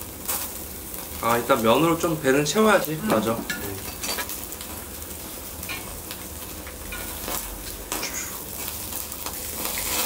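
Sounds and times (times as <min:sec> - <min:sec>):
fat dripping into heat: 0:00.0 - 0:10.0
skewers sizzling on a grill: 0:00.0 - 0:10.0.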